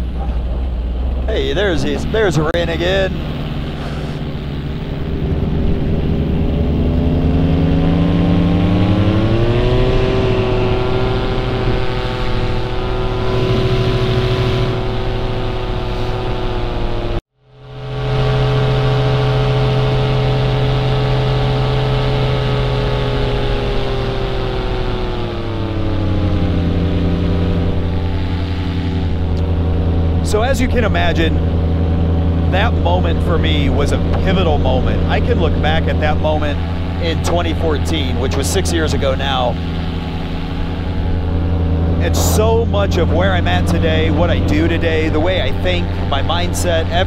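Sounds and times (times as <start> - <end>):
paramotor engine and propeller: 0.0 - 47.0.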